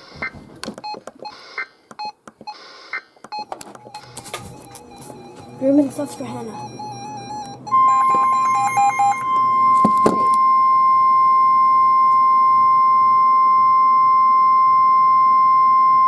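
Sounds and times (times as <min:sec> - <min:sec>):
steady electronic warning tone: 0:00.0 - 0:01.8, 0:02.5 - 0:16.0
stepped beeping melody: 0:00.0 - 0:12.9.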